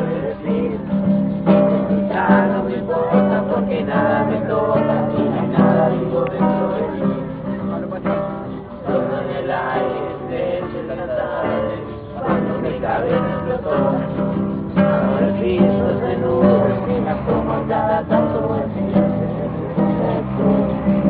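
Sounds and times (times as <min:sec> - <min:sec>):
strummed acoustic guitar: 0:00.0 - 0:21.0
voices singing together: 0:00.0 - 0:21.0.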